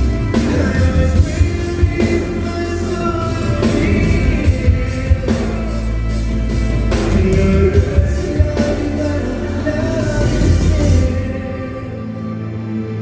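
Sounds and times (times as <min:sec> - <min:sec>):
drum and cymbal hits: 0:00.0 - 0:11.4.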